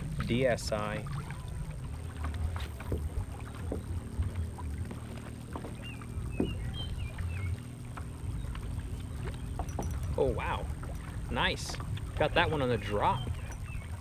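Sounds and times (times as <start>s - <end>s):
steady low rumble: 0.0s - 14.0s
waves lapping against kayak hull: 0.0s - 14.0s.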